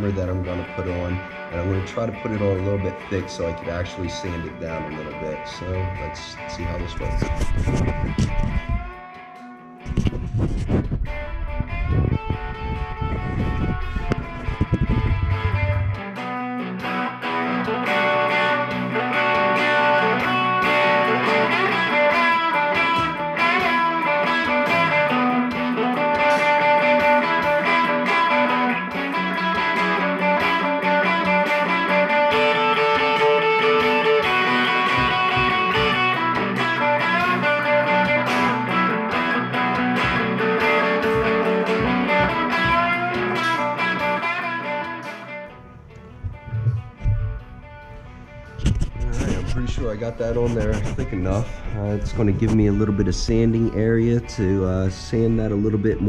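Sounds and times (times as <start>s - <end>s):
electric guitar strumming chords: 0.0s - 56.0s.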